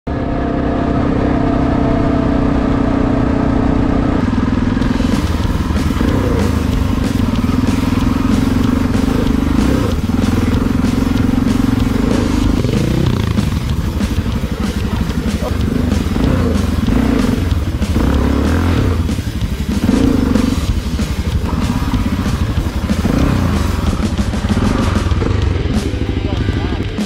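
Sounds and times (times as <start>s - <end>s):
motorcycle engine running: 0.1s - 27.0s.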